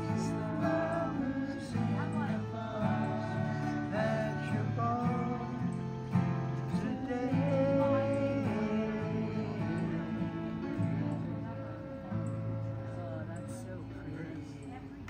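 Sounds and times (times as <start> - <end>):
acoustic guitars strumming: 0.0 - 15.0
people singing: 0.0 - 15.0.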